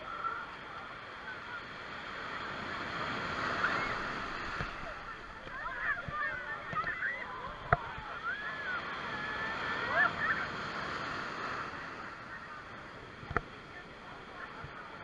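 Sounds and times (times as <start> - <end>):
sea water washing: 0.0 - 15.0.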